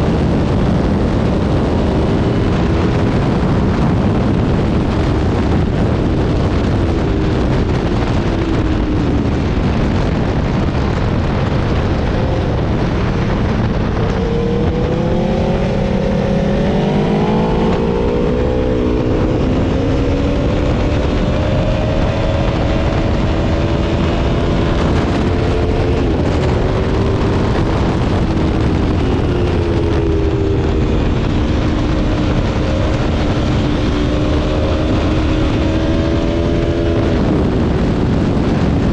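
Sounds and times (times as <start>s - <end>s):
motorcycle engine running hard: 0.0s - 38.9s
wind noise: 0.0s - 38.9s.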